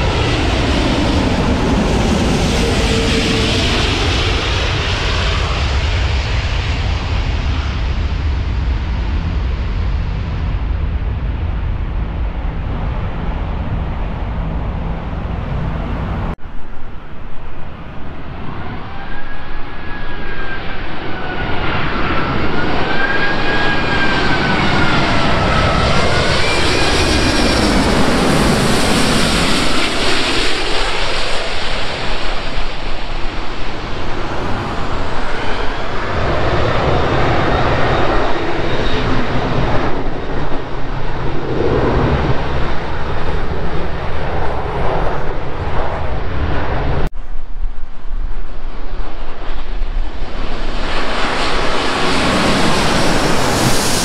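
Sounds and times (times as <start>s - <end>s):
airliner engine roar overhead: 0.0s - 54.0s.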